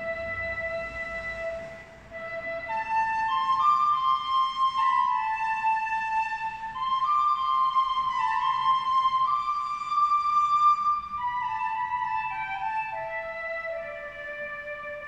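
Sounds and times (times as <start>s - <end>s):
flute-like whistling: 0.0s - 15.0s.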